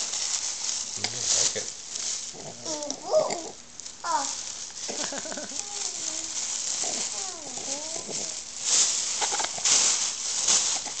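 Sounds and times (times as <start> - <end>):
paper and plastic bag rustling: 0.0 - 11.0.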